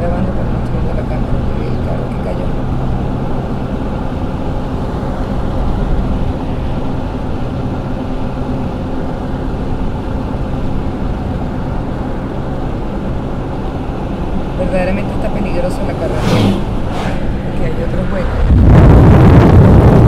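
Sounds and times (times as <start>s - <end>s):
car engine hum: 0.0s - 20.0s
road noise: 0.0s - 20.0s.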